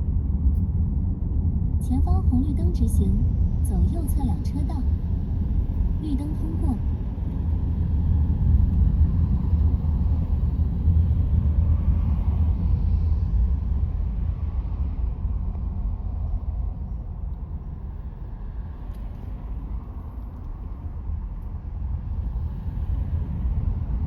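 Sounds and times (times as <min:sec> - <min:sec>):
car cabin road rumble: 0:00.1 - 0:24.0.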